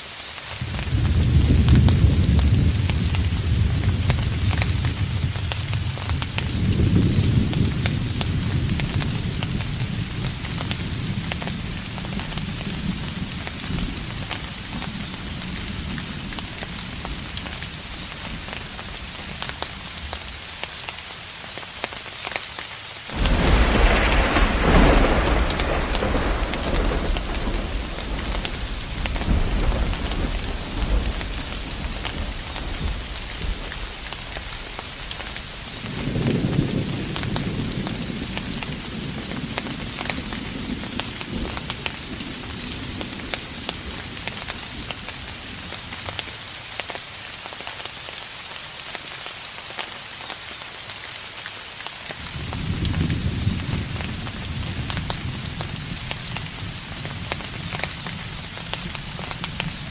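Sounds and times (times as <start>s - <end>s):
steady rain falling: 0.0s - 59.9s
distant thunder rumble: 0.6s - 19.2s, 23.1s - 46.0s, 52.2s - 59.9s.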